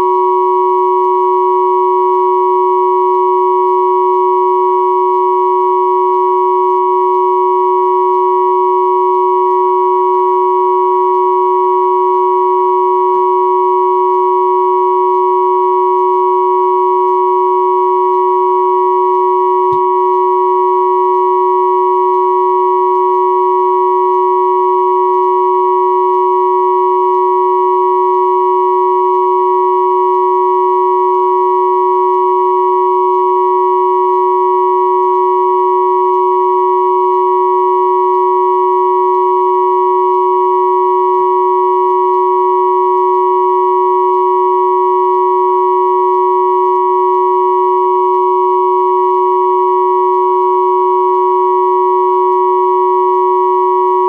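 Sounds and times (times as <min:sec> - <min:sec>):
steady sine tone chord: 0:00.0 - 0:54.0.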